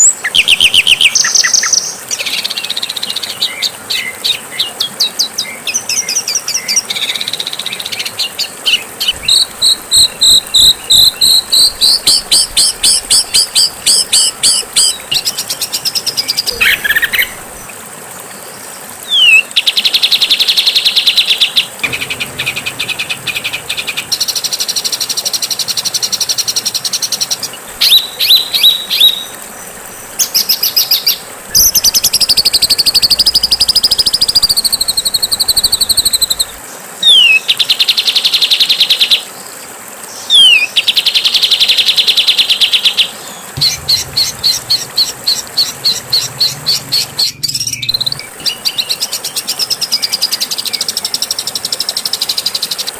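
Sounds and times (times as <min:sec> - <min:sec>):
songbirds chattering and trilling: 0:00.0 - 0:37.8, 0:42.9 - 0:52.9.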